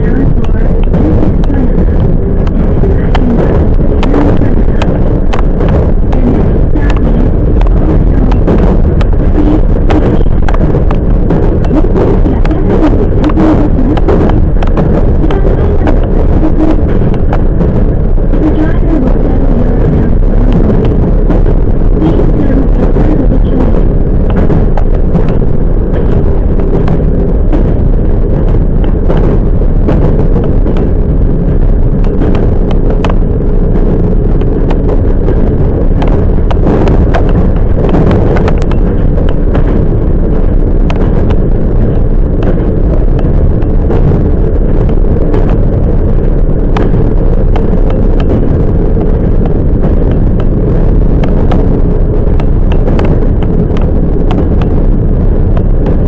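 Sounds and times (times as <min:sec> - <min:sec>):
faint steady hum: 0:00.0 - 0:56.0
track clicks and clacks: 0:00.0 - 0:56.0
train wheels rumbling on rail: 0:00.0 - 0:56.0.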